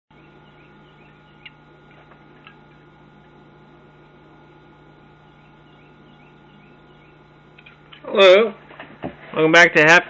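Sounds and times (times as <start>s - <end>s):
steady low hum: 0.1s - 10.0s.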